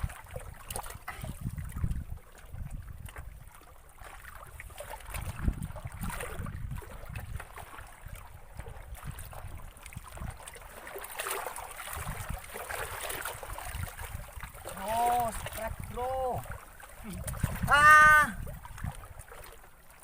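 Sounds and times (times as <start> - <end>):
wind gusting on microphone: 0.0 - 3.5, 4.4 - 10.4, 11.9 - 19.3
water lapping and sloshing: 0.0 - 20.0.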